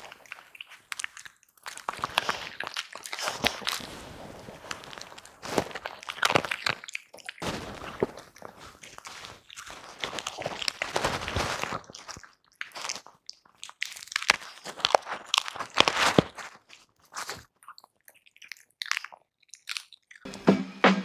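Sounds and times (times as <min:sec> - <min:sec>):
dogs crunching hard treats: 0:00.0 - 0:03.9, 0:04.5 - 0:20.3.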